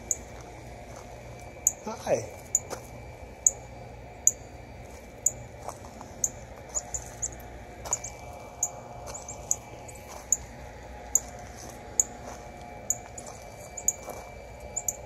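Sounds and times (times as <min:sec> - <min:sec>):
low background rumble: 0:00.0 - 0:15.0
songbirds chipping: 0:00.0 - 0:15.0.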